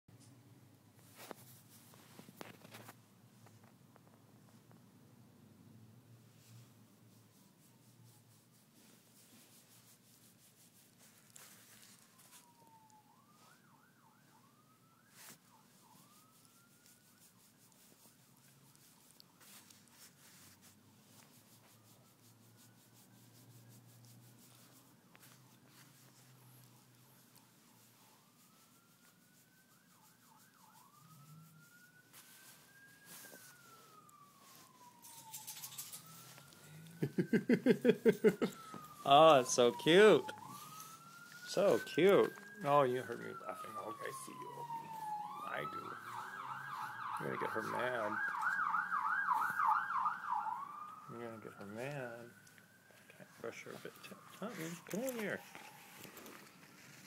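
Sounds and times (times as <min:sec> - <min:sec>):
faint emergency siren: 0:01.0 - 0:04.7, 0:05.9 - 0:57.0
faint rustles: 0:01.0 - 0:04.9, 0:06.2 - 0:49.8, 0:52.0 - 0:57.0.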